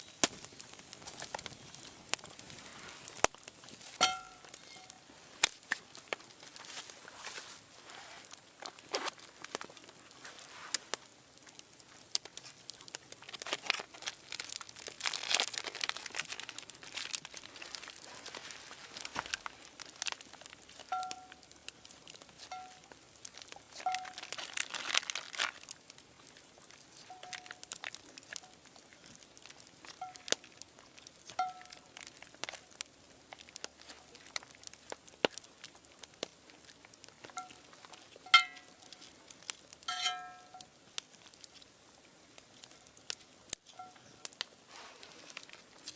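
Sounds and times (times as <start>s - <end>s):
crinkling and crackling clicks: 0.0s - 45.9s.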